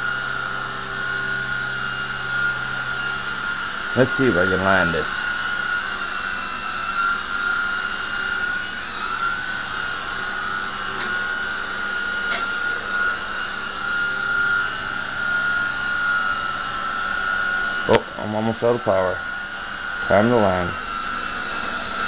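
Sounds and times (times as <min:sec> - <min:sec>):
toy helicopter rotor whine: 0:00.0 - 0:22.0.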